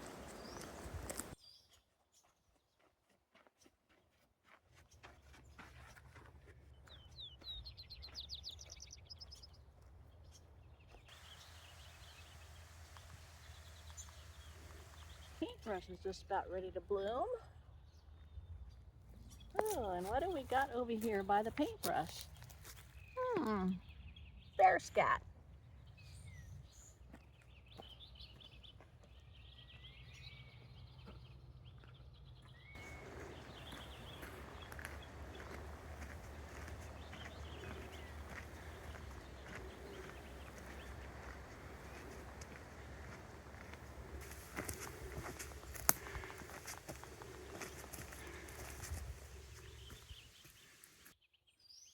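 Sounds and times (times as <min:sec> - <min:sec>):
songbird chirping: 0:00.0 - 0:02.6, 0:06.7 - 0:51.9.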